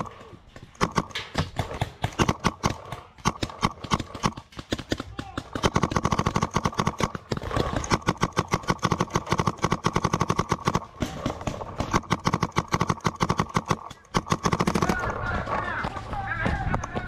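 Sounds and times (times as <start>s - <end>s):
paintball marker firing rapidly: 0.0s - 17.0s.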